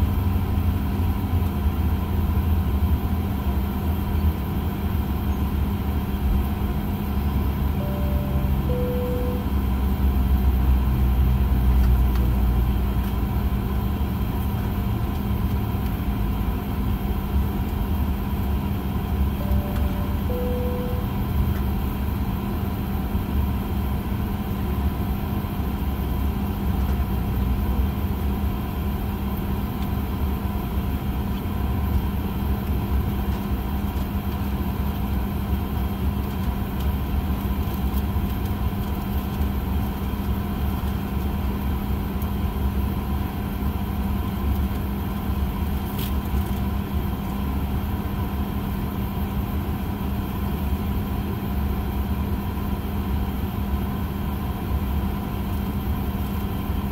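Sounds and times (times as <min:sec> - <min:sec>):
aircraft cabin air-conditioning hum: 0:00.0 - 0:56.9.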